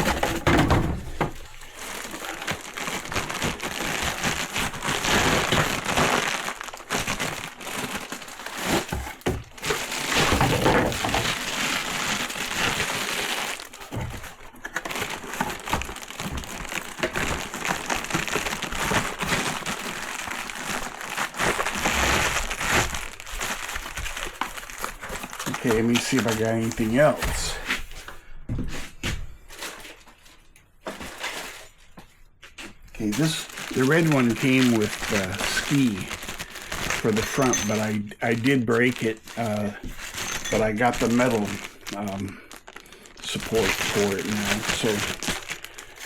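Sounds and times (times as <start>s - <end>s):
packaging crinkling: 0.0s - 28.0s, 29.5s - 46.0s.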